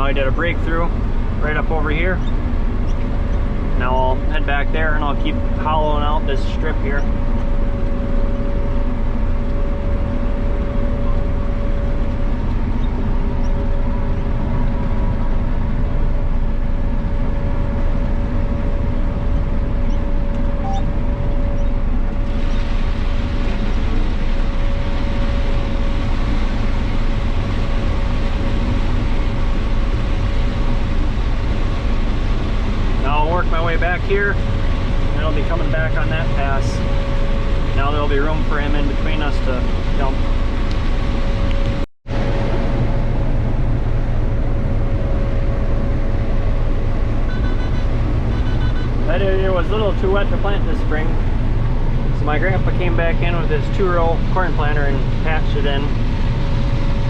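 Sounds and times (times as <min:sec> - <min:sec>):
combine harvester drone: 0:00.0 - 0:57.0
steady machine whine: 0:00.0 - 0:57.0.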